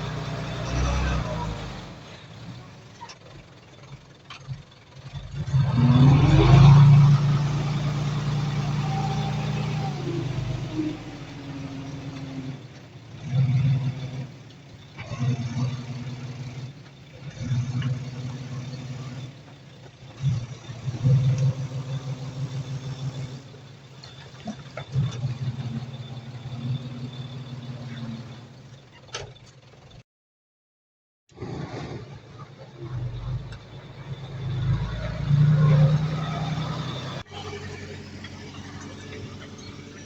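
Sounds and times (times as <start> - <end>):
diesel engine revving: 0.0 - 30.0, 31.3 - 40.0.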